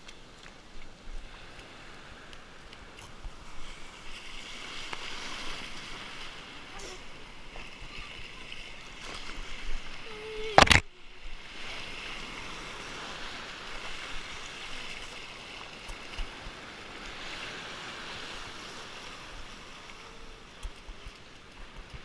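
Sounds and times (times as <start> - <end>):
surf foaming and rushing: 1.1 - 22.0.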